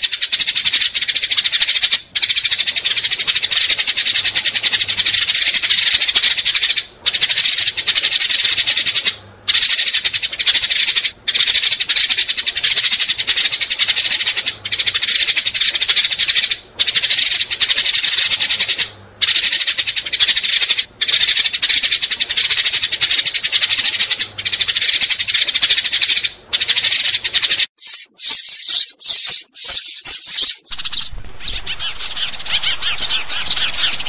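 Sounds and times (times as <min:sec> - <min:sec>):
sparrows chirping: 0:00.0 - 0:34.0.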